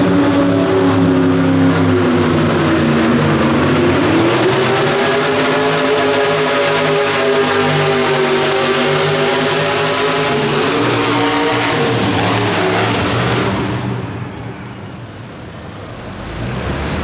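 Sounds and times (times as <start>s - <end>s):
truck engine revving high: 0.0s - 14.4s, 15.8s - 17.0s.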